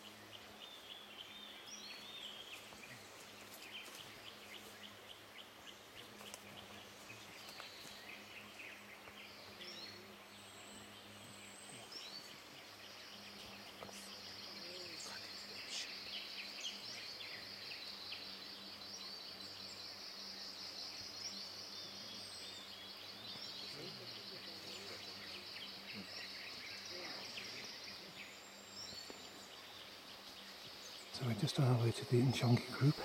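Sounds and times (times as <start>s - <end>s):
birds chirping: 0.0s - 33.0s
faint low hum: 0.0s - 33.0s.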